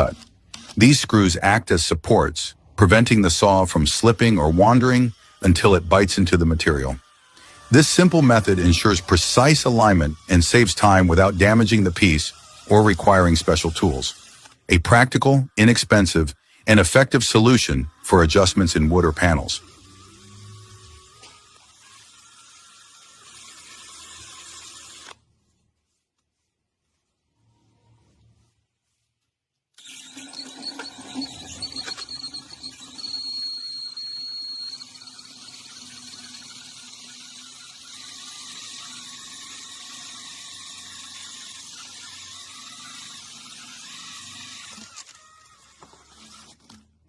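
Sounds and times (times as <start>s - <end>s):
power drill hole saw cutting wood: 0.0s - 25.2s, 29.8s - 46.9s.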